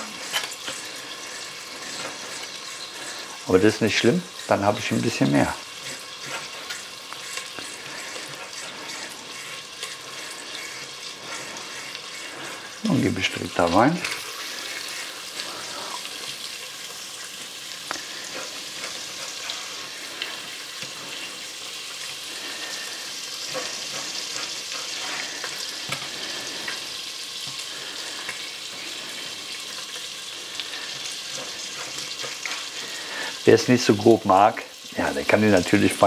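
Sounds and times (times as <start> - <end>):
pork sizzling in hot oil: 0.0 - 36.0.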